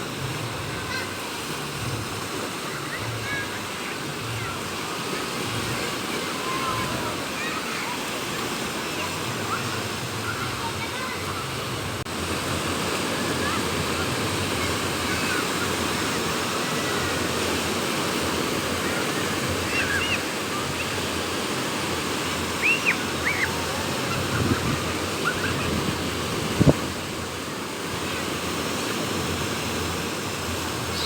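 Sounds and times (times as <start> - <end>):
sea surf washing onto shore: 0.0 - 31.0
wind: 0.0 - 31.0.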